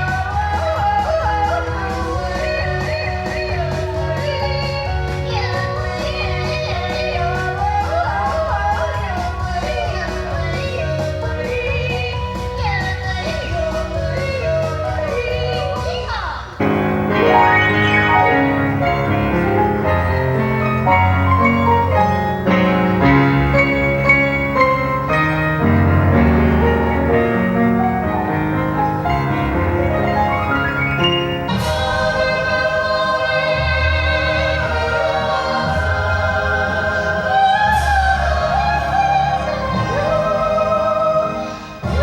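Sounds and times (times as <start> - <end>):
live band music: 0.0 - 42.0
singer holding long vibrato notes: 0.0 - 42.0.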